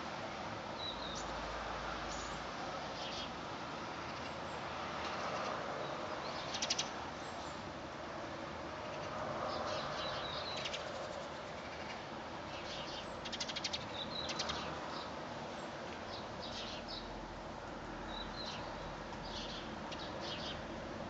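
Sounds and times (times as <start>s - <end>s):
wind and rain hiss: 0.0s - 21.0s.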